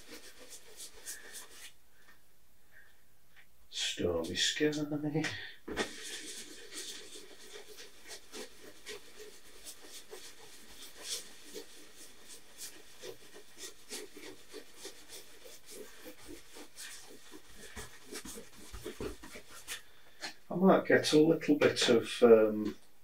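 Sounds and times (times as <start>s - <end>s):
brush strokes on canvas: 0.0s - 2.2s, 3.8s - 22.8s.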